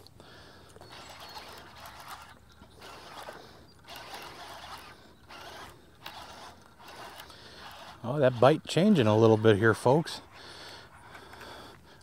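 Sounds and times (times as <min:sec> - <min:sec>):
fishing reel gears whirring: 0:00.0 - 0:11.8.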